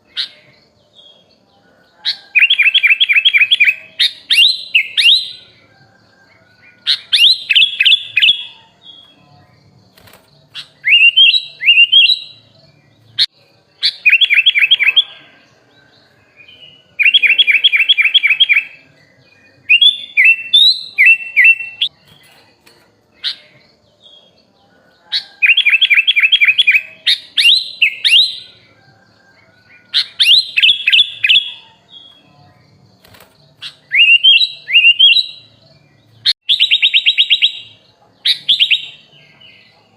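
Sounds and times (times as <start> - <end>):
bird singing whistled notes: 2.0 - 22.4, 23.2 - 39.8.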